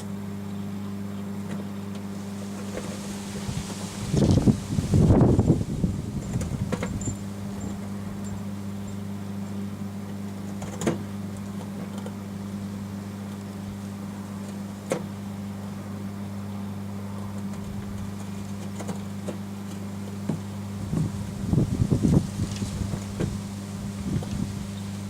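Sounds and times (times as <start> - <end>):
microwave oven humming: 0.0 - 25.0.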